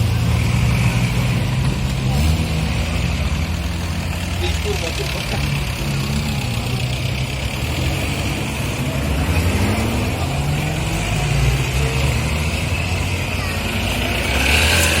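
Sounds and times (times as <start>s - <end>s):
tractor engines running: 0.0s - 15.0s.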